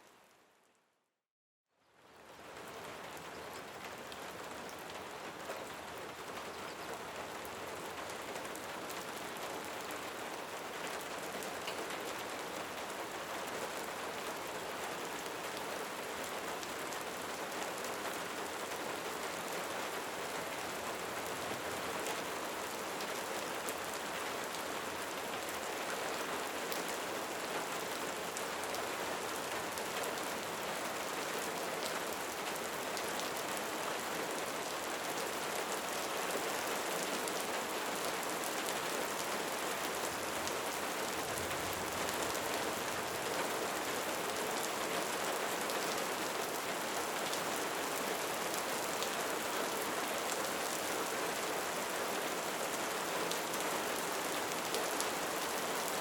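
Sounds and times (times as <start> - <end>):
steady rain falling: 1.9 - 56.0.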